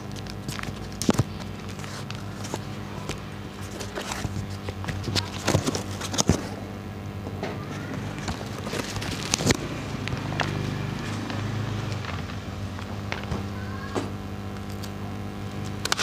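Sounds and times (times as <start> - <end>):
cardboard crackling and scraping: 0.0 - 6.8, 7.4 - 13.9
low electrical hum: 0.0 - 16.0.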